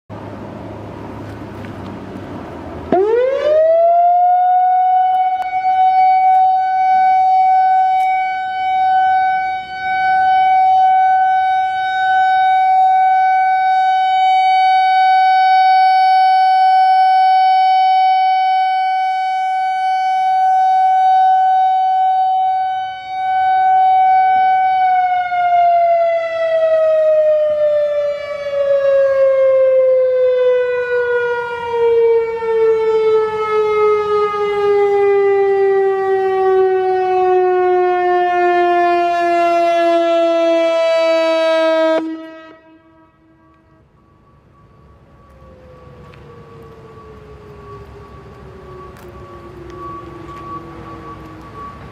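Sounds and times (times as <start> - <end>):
rotating electronic warning siren: 2.6 - 51.9.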